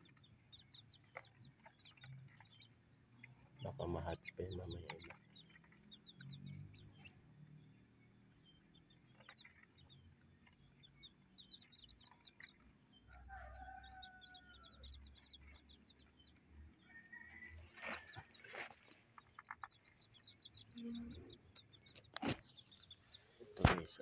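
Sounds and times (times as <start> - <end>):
chicks cheeping: 0.0 - 24.0.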